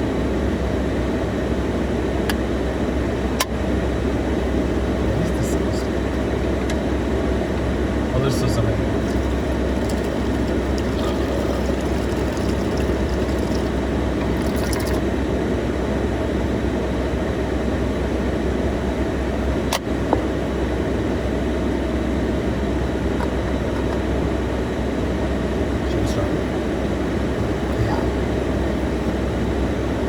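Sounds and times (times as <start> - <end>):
low rumbling background noise: 0.0 - 30.0.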